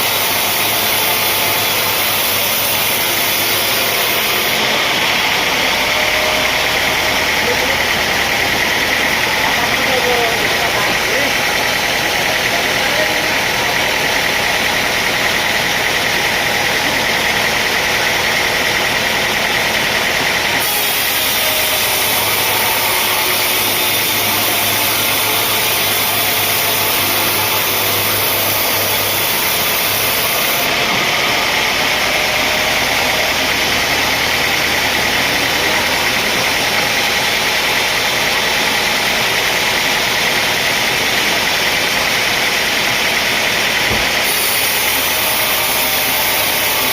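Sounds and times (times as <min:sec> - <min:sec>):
heavy machinery engine running: 0:00.0 - 0:46.9.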